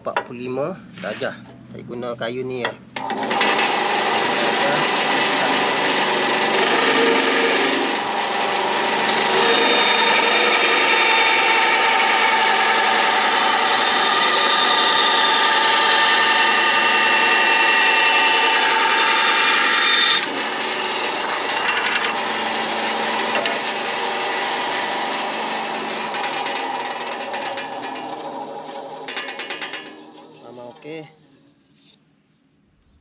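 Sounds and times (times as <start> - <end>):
band saw running without load: 3.0 - 31.0
band saw cutting wood: 3.0 - 31.1.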